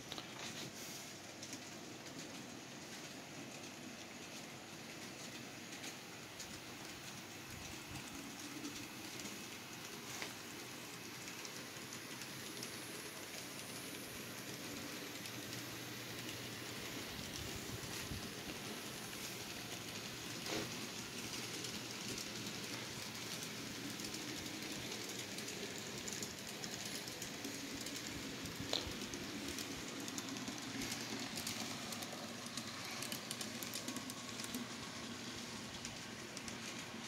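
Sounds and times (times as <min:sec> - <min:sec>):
model train rolling whir: 0:00.0 - 0:37.0.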